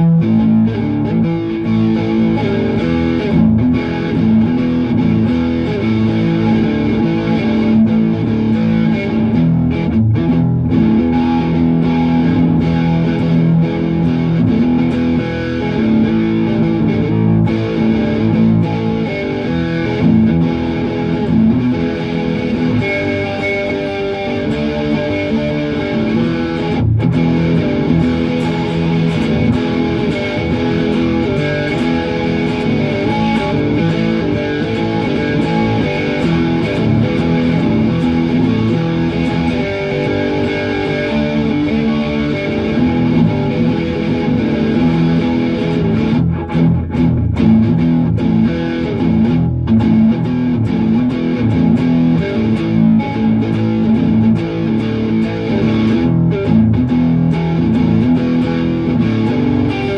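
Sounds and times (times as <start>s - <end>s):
electric guitar instrumental: 0.0s - 59.9s.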